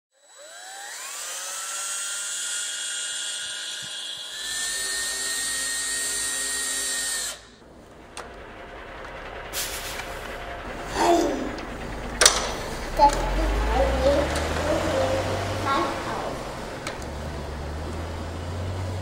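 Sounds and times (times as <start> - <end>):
electric motor whining: 0.1 - 19.0.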